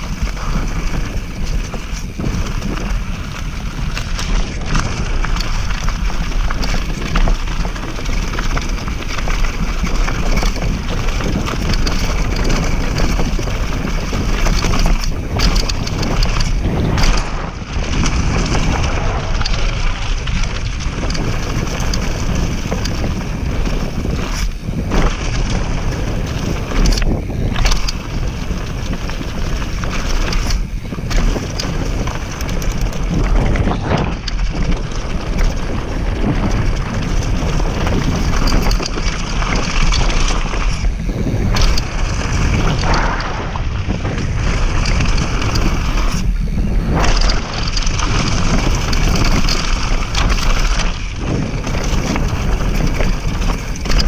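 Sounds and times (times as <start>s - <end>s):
bike tyres rolling on gravel: 0.0s - 54.0s
wind buffeting microphone: 0.0s - 54.0s.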